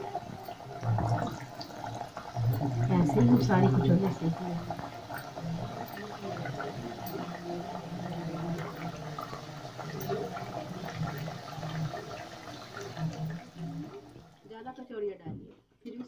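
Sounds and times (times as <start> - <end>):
oil bubbling and sizzling: 0.0 - 14.6.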